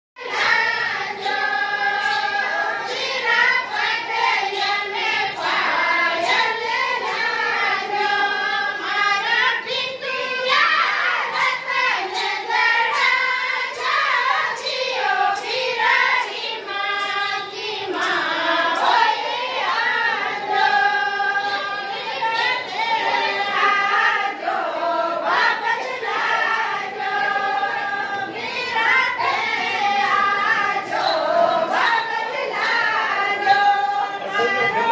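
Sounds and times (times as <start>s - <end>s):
women singing in unison: 0.2s - 34.9s.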